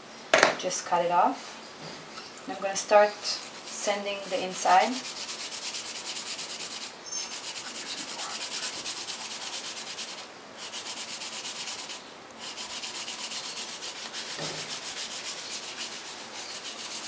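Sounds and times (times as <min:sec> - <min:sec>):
metal ring sanded on sandpaper: 0:02.8 - 0:17.0.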